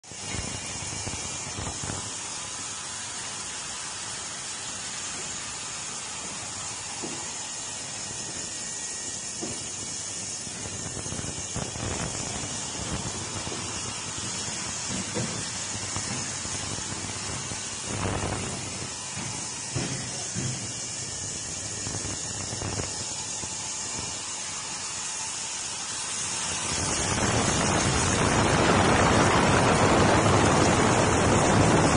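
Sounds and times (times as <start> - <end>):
ultrasonic washer high-pitched hiss: 0.0 - 31.9.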